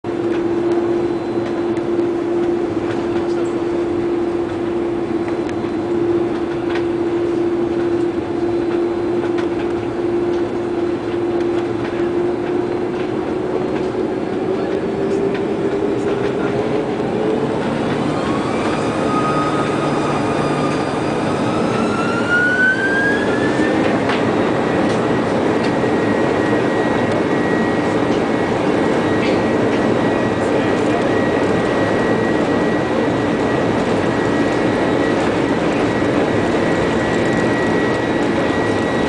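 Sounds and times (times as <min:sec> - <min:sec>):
constant rumble: 0:00.1 - 0:39.0
jet engines spooling up: 0:00.1 - 0:39.0
rising engine whine: 0:00.1 - 0:39.0.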